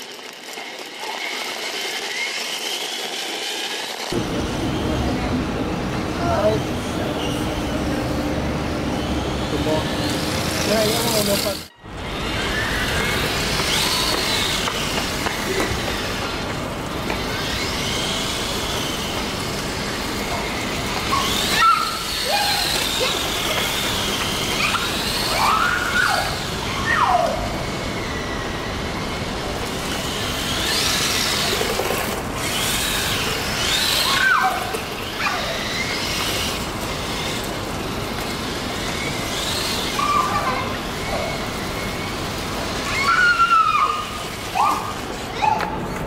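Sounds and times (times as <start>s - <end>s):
electric motor whining: 0.0s - 45.4s.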